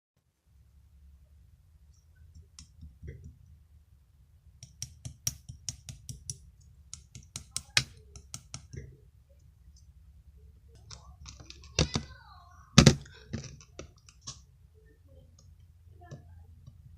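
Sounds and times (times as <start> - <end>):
low steady hum: 0.2 - 16.9.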